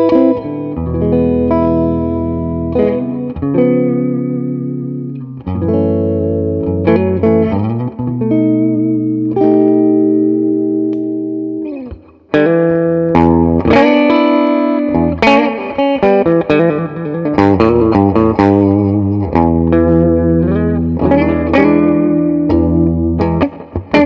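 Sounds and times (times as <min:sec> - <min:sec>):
overdriven electric guitar chords: 0:00.0 - 0:24.0
picked guitar notes: 0:00.0 - 0:24.0.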